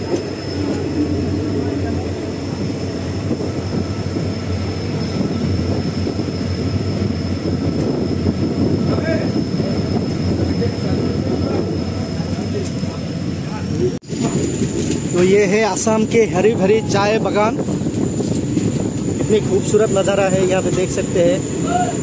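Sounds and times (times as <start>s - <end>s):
high-pitched whine: 0.0s - 22.0s
train coach rumble and rattle: 0.0s - 22.0s.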